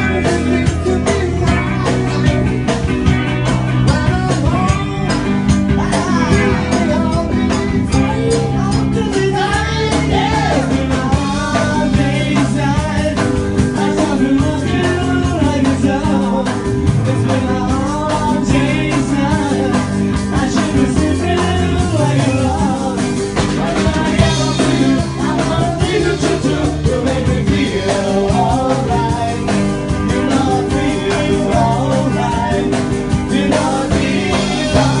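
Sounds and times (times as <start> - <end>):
rock music with singing: 0.0 - 35.0.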